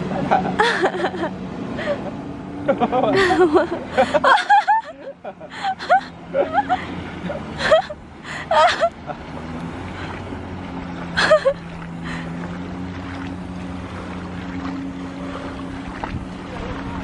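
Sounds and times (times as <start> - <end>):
jet ski engine droning: 0.0 - 17.0.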